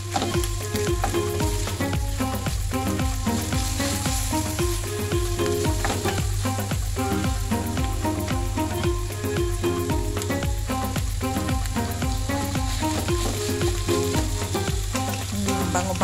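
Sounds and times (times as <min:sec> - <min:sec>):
light background music with beat: 0:00.0 - 0:16.0
vegetables sizzling in a frying pan: 0:00.0 - 0:16.0
wooden spatula scraping a pan: 0:00.0 - 0:16.0.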